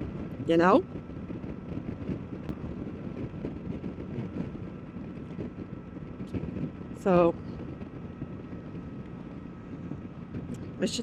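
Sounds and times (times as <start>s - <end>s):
motorcycle engine rumble: 0.0s - 11.0s
wind rush: 0.0s - 11.0s.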